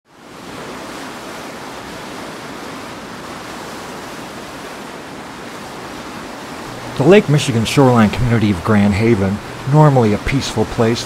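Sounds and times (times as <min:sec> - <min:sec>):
surf rushing: 0:00.1 - 0:11.0.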